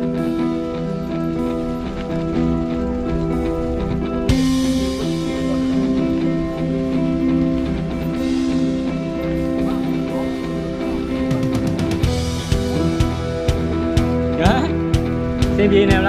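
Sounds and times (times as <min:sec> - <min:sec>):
music with guitar and drums: 0:00.0 - 0:16.0.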